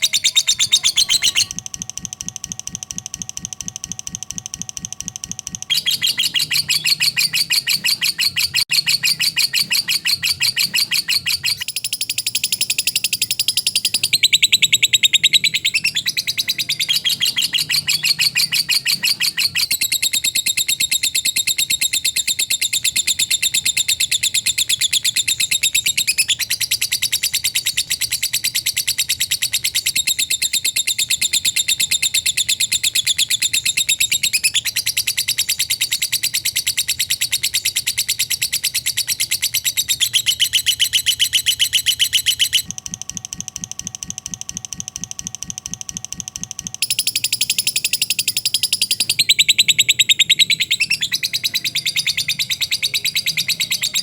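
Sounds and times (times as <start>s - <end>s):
lovebird chirping chatter: 0.0s - 1.6s, 5.7s - 42.7s, 46.8s - 54.0s.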